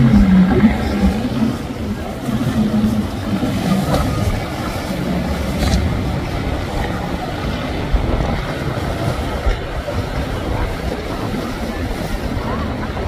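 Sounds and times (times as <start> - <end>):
boat engines running: 0.0 - 13.0.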